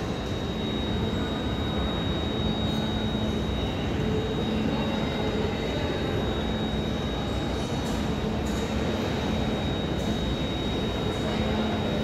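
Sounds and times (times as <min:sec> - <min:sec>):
electric train hum and rumble: 0:00.0 - 0:12.0
high whine: 0:00.0 - 0:12.0.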